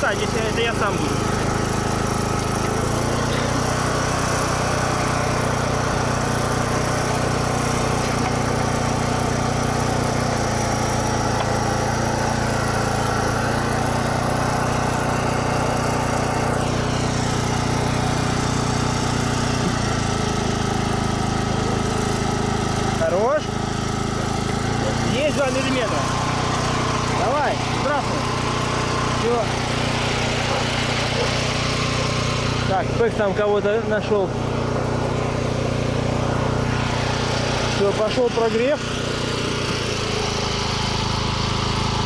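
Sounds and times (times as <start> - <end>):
generator engine running: 0.0 - 42.0.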